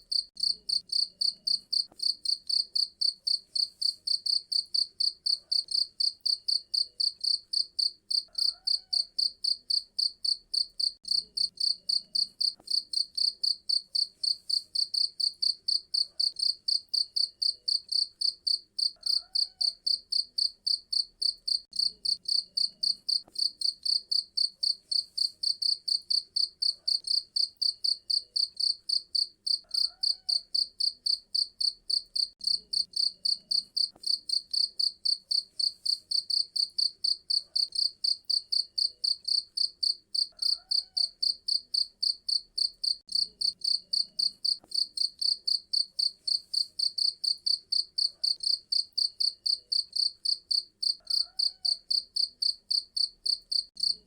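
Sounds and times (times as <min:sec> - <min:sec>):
cricket chirping: 0:00.1 - 0:54.0.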